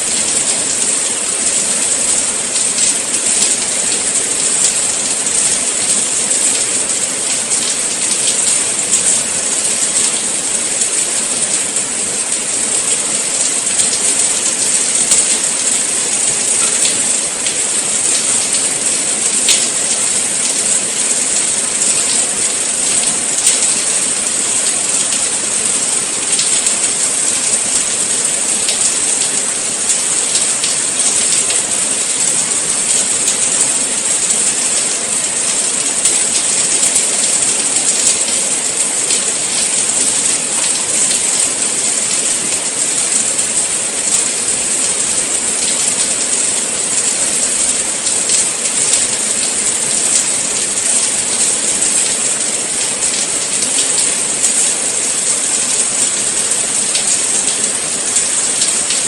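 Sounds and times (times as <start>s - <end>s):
patter of raindrops: 0.0s - 59.0s
steady rain hiss: 0.0s - 59.0s.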